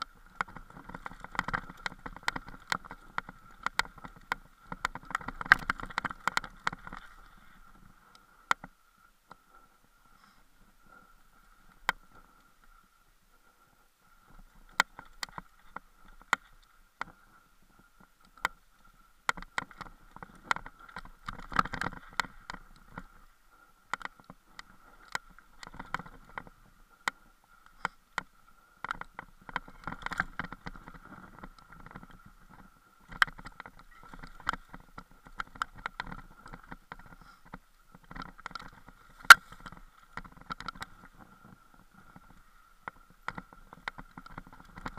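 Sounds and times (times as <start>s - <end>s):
bike knocking and rattling on stones: 0.0s - 8.8s, 14.3s - 44.9s.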